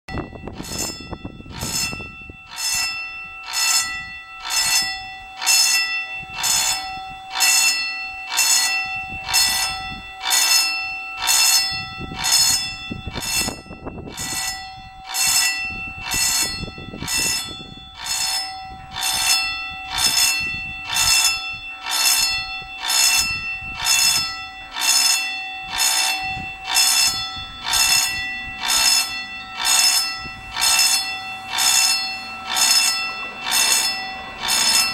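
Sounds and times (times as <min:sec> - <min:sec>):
level crossing bell ringing: 0:00.1 - 0:34.9.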